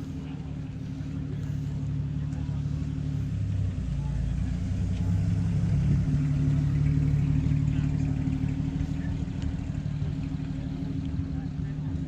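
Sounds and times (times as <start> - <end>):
car engine at raised revs: 0.0 - 12.0.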